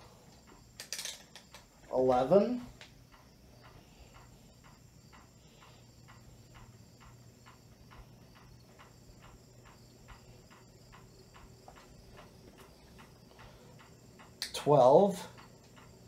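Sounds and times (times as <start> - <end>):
ceiling fan motor hum: 0.0 - 16.0
light even ticking: 0.0 - 16.0.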